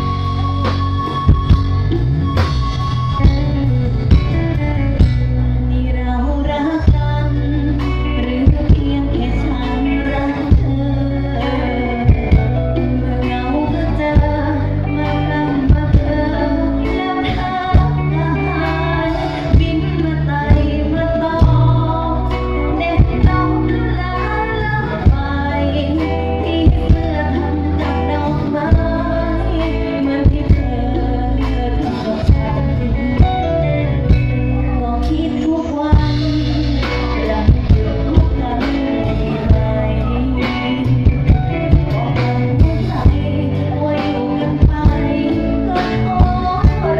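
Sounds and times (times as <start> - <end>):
heavy bass line: 0.0 - 46.9
live band playing amplified music: 0.0 - 46.9
person singing: 3.1 - 46.9.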